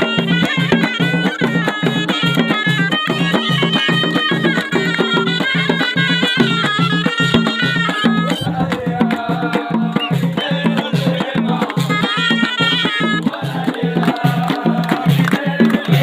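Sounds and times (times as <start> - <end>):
shawm playing folk melody: 0.0 - 16.0
steady rhythmic beat: 0.0 - 16.0.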